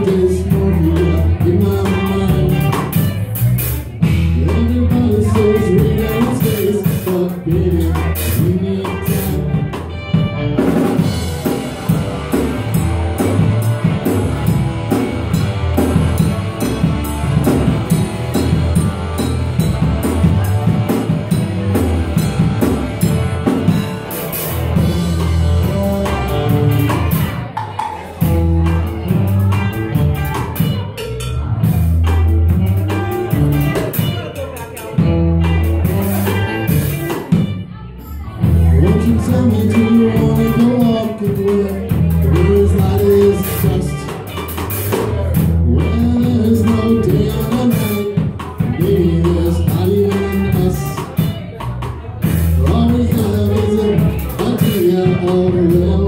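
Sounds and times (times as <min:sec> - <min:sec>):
bass guitar: 0:00.0 - 0:56.0
electric guitar: 0:00.0 - 0:56.0
steady drum beat: 0:00.0 - 0:56.0.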